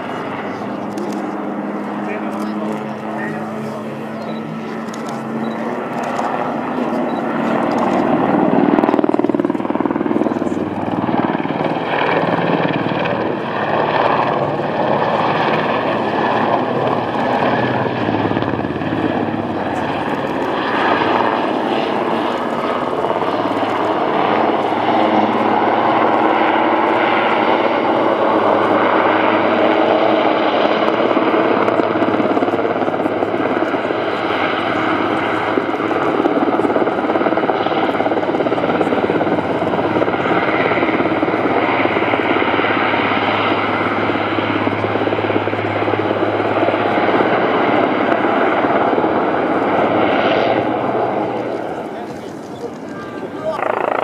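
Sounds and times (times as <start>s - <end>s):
helicopter rotor and turbine noise: 0.0s - 54.0s.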